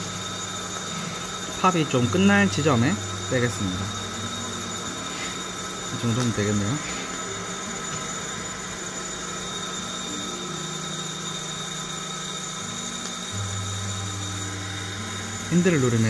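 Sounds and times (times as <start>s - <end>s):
coffee roaster mechanical hum: 0.0s - 16.0s
deeper cooling hum: 0.0s - 16.0s.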